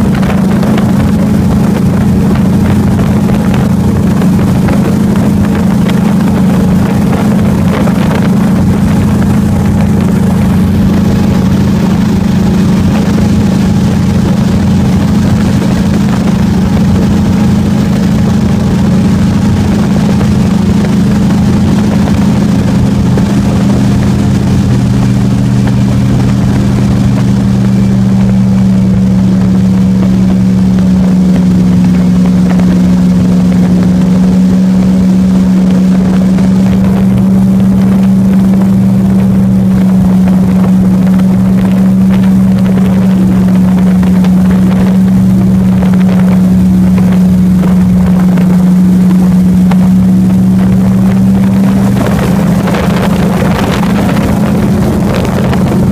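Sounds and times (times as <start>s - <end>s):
airboat engine and propeller drone: 0.0s - 55.9s.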